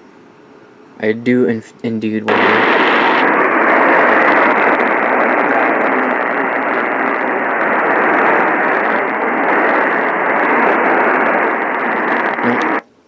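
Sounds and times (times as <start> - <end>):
radio static hiss: 1.0 - 12.9.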